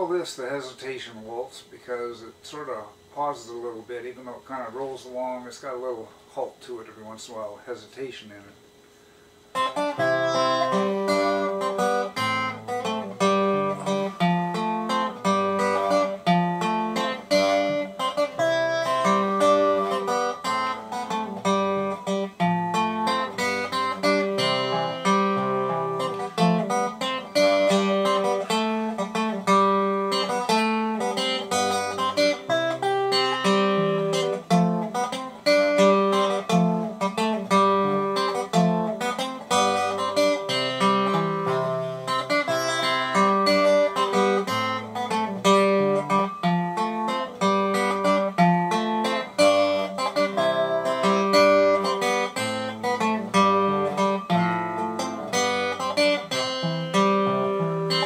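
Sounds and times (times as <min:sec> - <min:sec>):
fingerstyle acoustic guitar waltz: 0:09.6 - 0:58.0.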